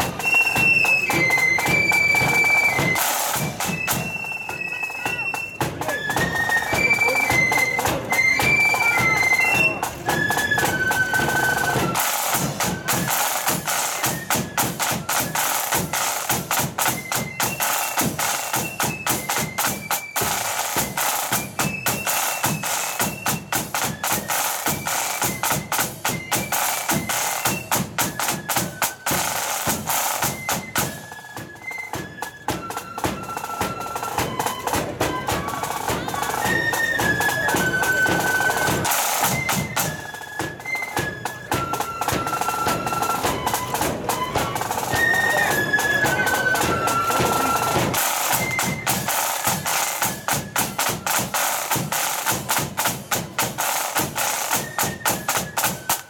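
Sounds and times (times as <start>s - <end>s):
rapid snare drumming: 0.0s - 31.2s, 32.0s - 56.0s
flutes playing melody: 0.0s - 56.0s.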